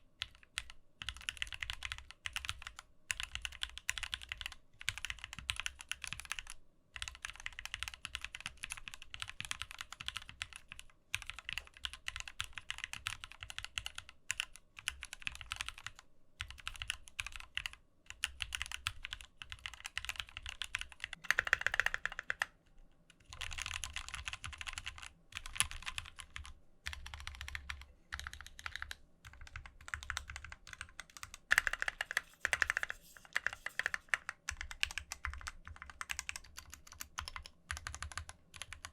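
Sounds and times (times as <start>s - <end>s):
mechanical keyboard typing: 0.2s - 22.5s, 23.2s - 38.9s.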